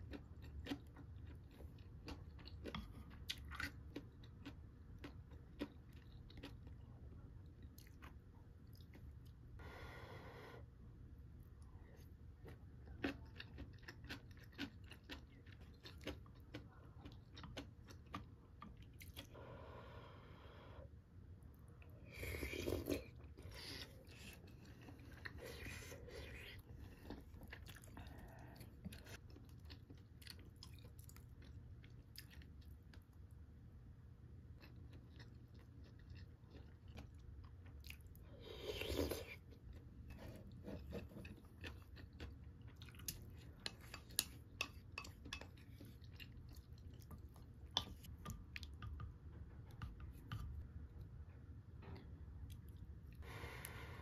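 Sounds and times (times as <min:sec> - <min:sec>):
person chewing food: 0:00.0 - 0:09.5, 0:12.0 - 0:19.8, 0:22.1 - 0:33.4, 0:34.5 - 0:51.1.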